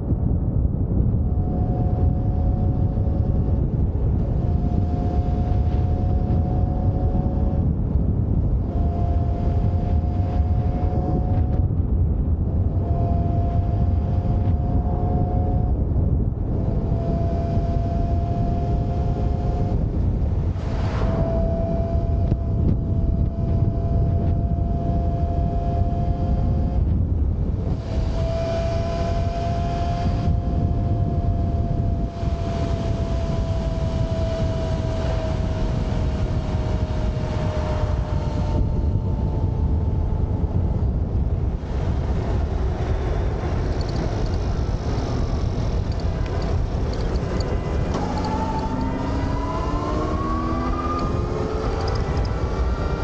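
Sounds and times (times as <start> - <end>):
electric motorcycle motor whine: 0.0 - 53.0
wind rush on microphone: 0.0 - 53.0.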